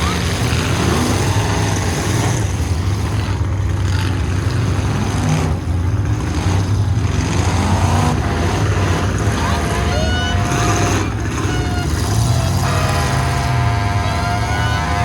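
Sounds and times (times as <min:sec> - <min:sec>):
pickup truck engines revving: 0:00.0 - 0:15.0.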